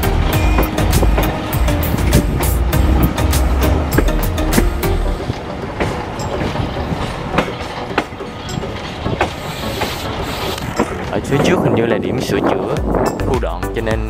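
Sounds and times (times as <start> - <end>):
train rumbling on track: 0.0 - 13.9
wheels clacking over rail joints: 0.0 - 13.9.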